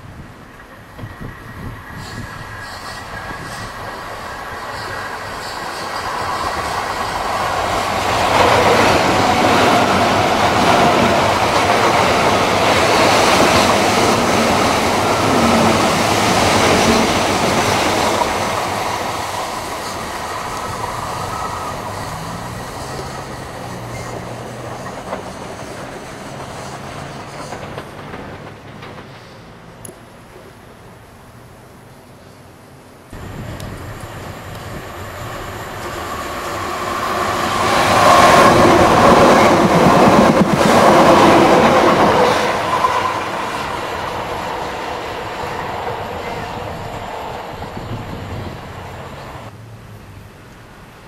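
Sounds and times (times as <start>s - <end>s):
train wheels clattering on rails: 0.6s - 30.0s, 33.2s - 49.5s.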